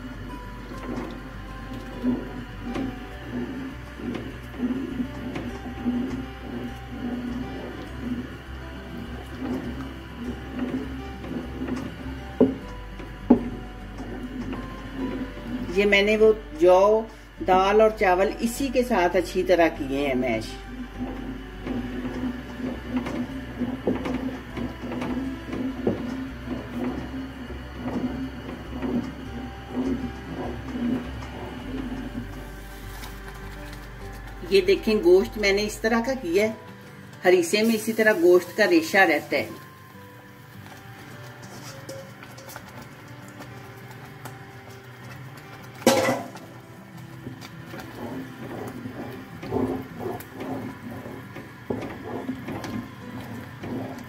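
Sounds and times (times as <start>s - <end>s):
spoon stirring thick porridge: 0.0s - 16.5s, 18.9s - 39.7s, 40.4s - 54.0s
wooden spatula scraping metal pot: 0.0s - 39.7s, 40.4s - 54.0s.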